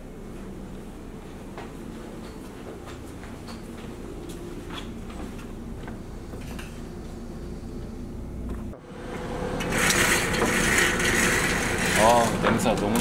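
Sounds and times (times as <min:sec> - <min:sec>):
machine hum with light ticks: 0:00.0 - 0:13.0.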